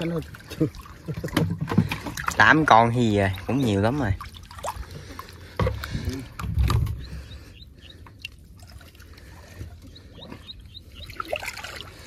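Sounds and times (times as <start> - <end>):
water trickling and sloshing: 0.0 - 12.0.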